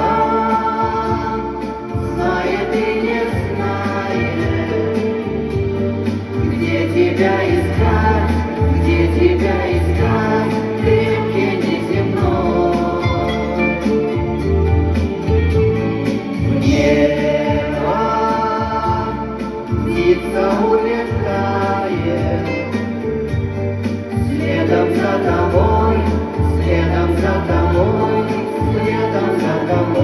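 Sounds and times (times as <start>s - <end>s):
sung voices with accompaniment: 0.0s - 30.0s.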